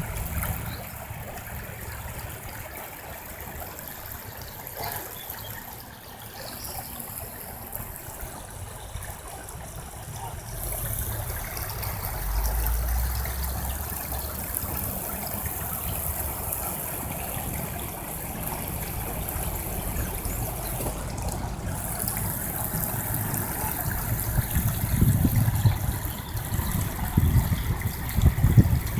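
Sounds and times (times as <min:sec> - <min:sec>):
stream water rushing: 0:00.0 - 0:28.9.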